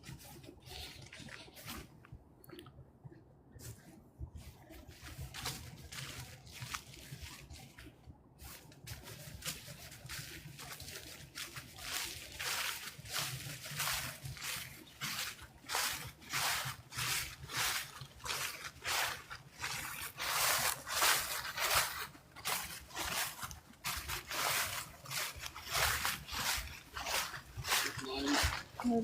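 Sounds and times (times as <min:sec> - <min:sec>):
footsteps crunching dry leaves: 0:00.0 - 0:01.9, 0:04.4 - 0:29.0.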